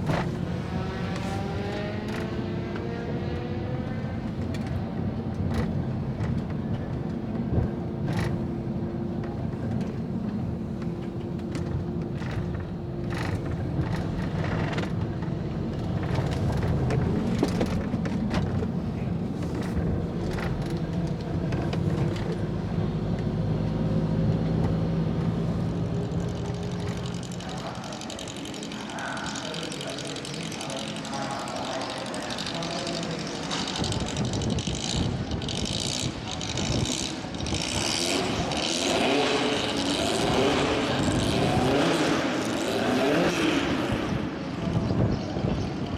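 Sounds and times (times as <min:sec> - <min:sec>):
car engine drone: 0:00.0 - 0:45.9.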